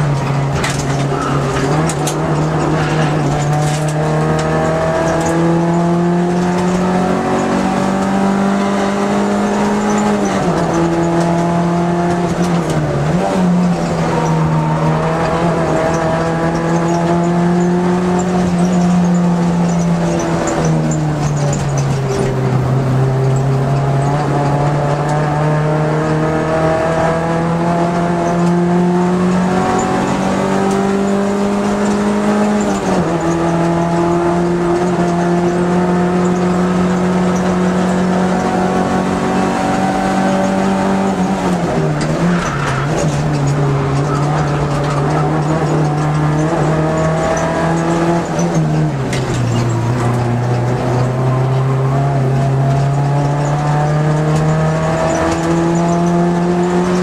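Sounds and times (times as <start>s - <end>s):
car engine at high revs: 0.0s - 57.0s.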